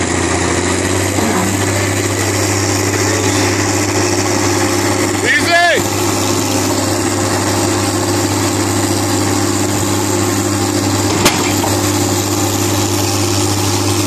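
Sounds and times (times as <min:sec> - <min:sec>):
dozer diesel engine running: 0:00.0 - 0:14.0.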